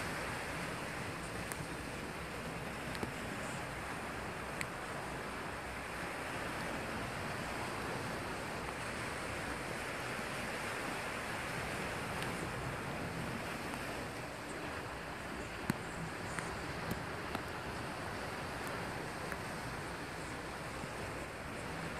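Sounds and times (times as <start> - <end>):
surf breaking on rocks: 0.0 - 21.9
wind buffeting microphone: 0.0 - 21.9.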